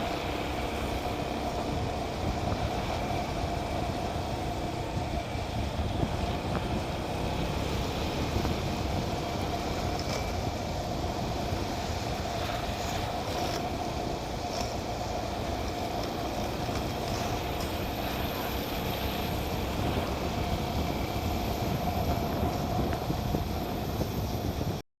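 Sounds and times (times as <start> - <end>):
motorcycle engine running: 0.0 - 24.8.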